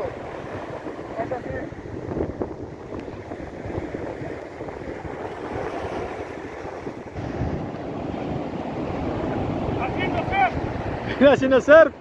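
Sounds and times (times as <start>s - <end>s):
waves washing on sand: 0.0s - 12.0s
wind buffeting microphone: 0.0s - 12.0s.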